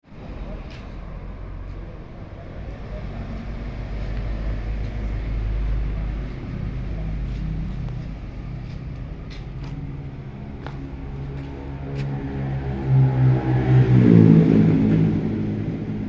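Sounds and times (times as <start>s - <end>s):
large engine rumbling: 0.0s - 16.0s.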